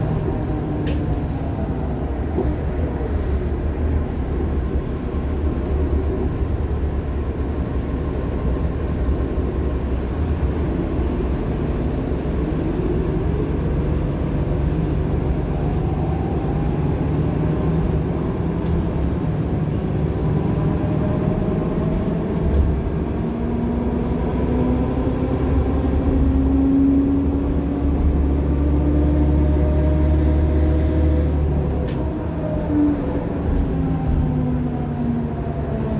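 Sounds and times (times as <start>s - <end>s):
bus diesel engine rumble: 0.0s - 35.9s.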